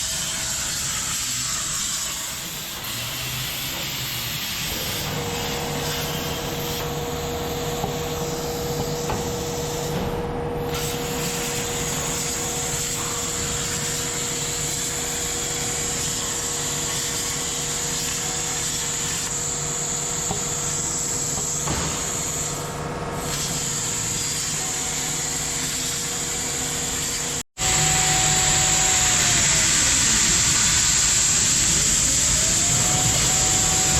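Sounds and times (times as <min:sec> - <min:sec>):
laser cutting machine hissing: 0:00.0 - 0:33.9.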